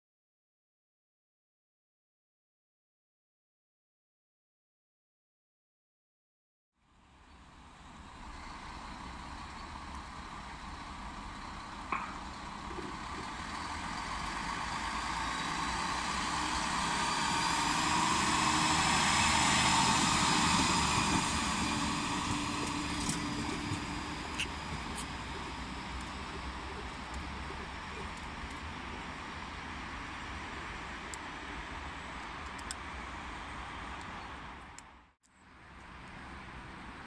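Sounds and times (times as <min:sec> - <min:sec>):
diesel railcar engine drone: 0:06.8 - 0:37.0
rail noise: 0:06.8 - 0:37.0.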